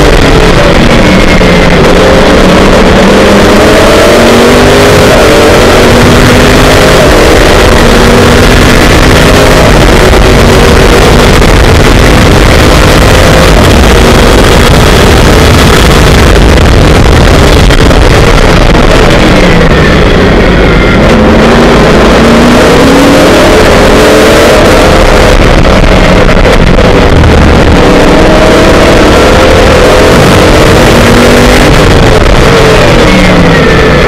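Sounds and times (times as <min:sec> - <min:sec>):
race car engine running hard: 0:00.0 - 0:34.0
wind rush: 0:00.0 - 0:34.0.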